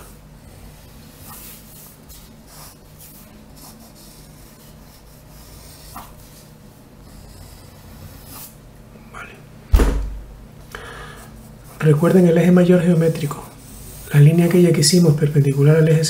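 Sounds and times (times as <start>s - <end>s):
pencil scratching on paper: 0.0s - 8.6s, 11.2s - 16.0s.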